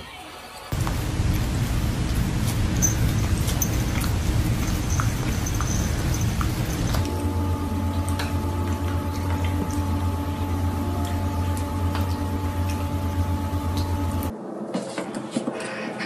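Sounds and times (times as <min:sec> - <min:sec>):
water dripping: 0:00.7 - 0:07.1, 0:07.8 - 0:14.3
steady low hum: 0:00.7 - 0:14.6.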